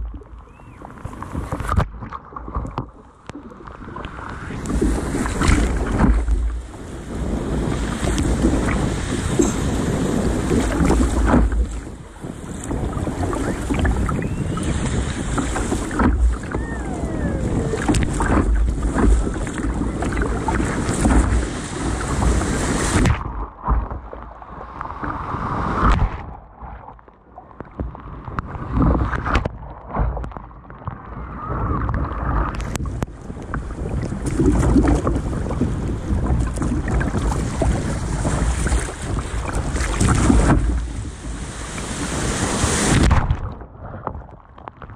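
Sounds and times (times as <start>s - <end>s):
water splashing over kayak: 0.0s - 44.9s
wind buffeting microphone: 3.8s - 26.9s, 27.6s - 44.4s.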